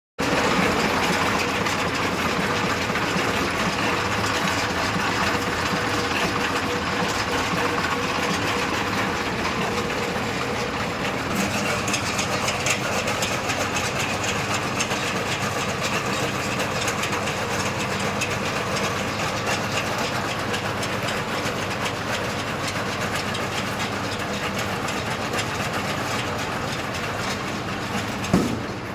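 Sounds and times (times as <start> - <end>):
baler machinery clatter: 0.2 - 28.9
tractor engine drone: 0.2 - 28.9.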